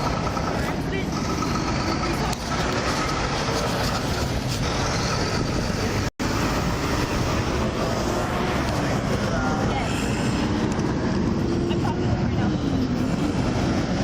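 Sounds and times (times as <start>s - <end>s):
vehicle rumble and road noise: 0.0s - 14.0s.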